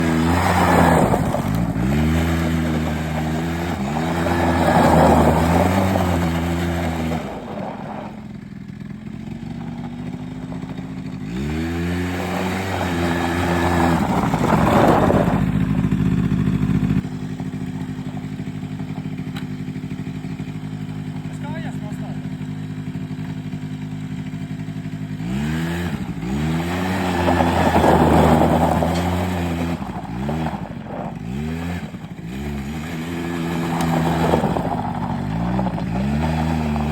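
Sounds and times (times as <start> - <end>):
quad engine revving and idling: 0.0 - 36.9.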